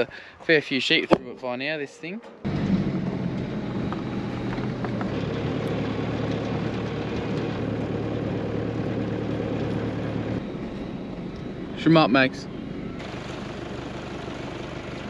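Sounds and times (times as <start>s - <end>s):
truck engine droning: 2.2s - 15.0s.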